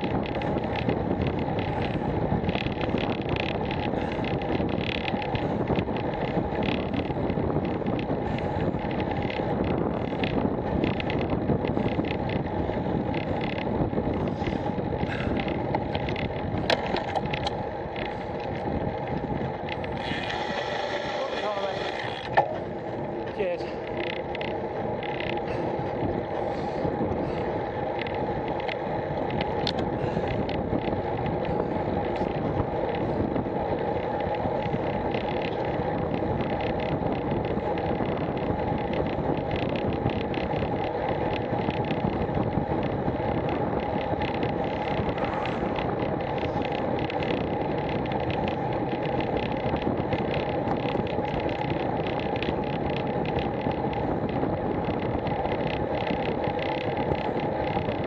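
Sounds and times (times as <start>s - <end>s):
bike tyre road noise: 0.0s - 58.0s
wind rush on microphone: 0.0s - 58.0s.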